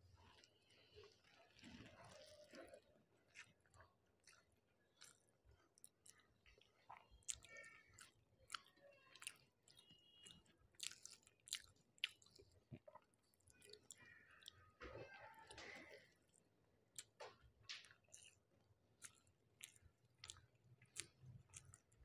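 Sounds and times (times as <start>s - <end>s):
close-up chewing: 0.0s - 22.0s.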